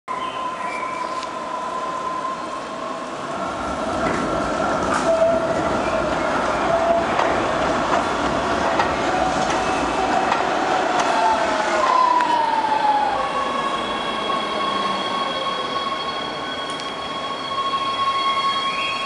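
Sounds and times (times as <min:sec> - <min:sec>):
tram rumble with high whine: 0:00.1 - 0:19.0.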